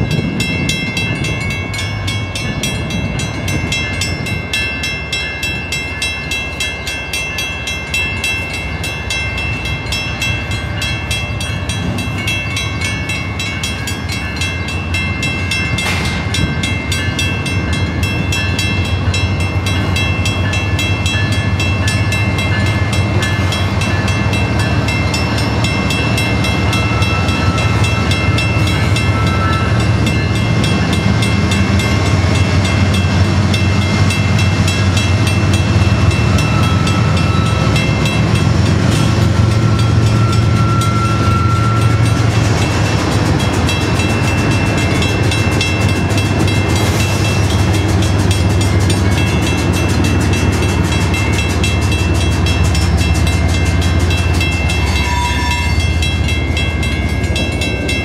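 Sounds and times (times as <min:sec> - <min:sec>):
crossing bell ringing: 0:00.0 - 0:58.0
locomotive engine rumble: 0:00.0 - 0:58.0.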